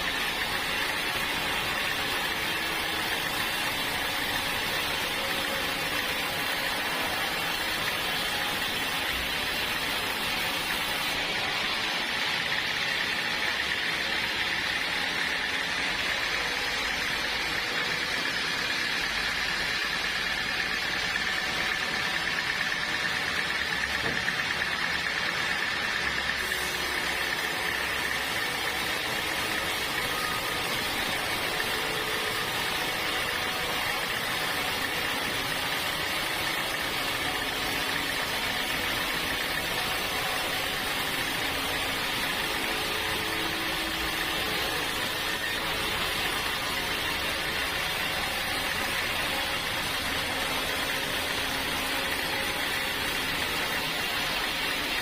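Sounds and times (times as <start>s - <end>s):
saw cutting through log: 0.0s - 55.0s.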